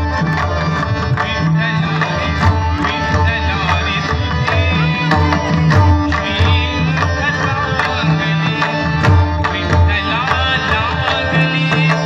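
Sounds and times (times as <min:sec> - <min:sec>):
barrel drums played by hand: 0:00.0 - 0:12.0
person singing devotional song: 0:00.8 - 0:12.0.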